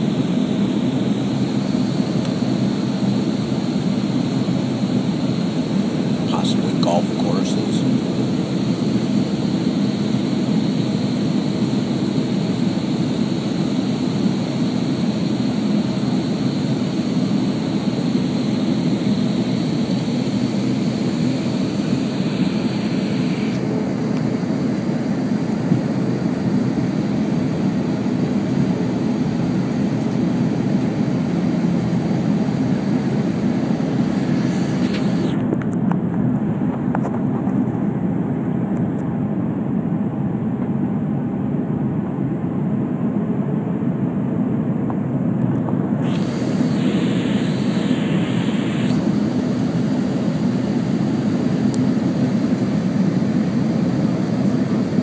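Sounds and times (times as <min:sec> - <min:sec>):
airliner cabin drone: 0:00.0 - 0:55.0.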